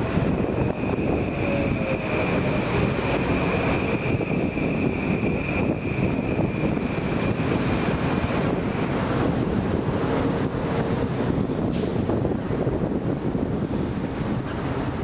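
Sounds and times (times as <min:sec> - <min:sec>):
train rumbling on track: 0:00.0 - 0:15.0
wind buffeting microphone: 0:00.0 - 0:15.0.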